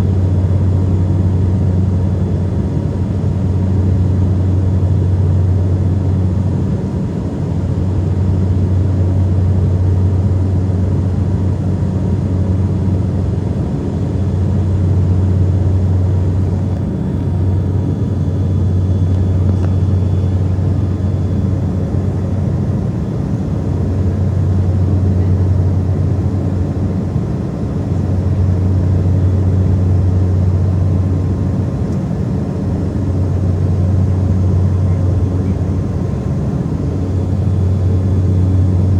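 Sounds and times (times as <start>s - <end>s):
propeller engines droning: 0.0s - 38.9s.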